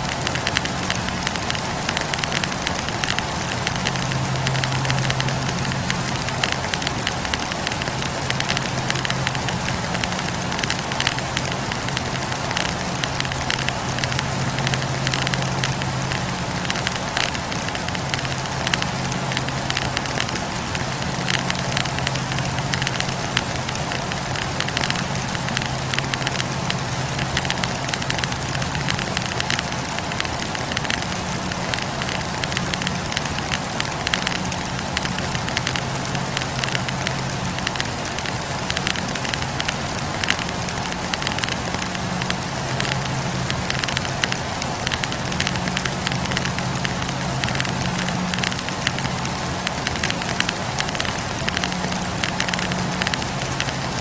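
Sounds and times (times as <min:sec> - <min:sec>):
campfire crackling and popping: 0:00.0 - 0:54.0
steady low hum: 0:00.0 - 0:54.0.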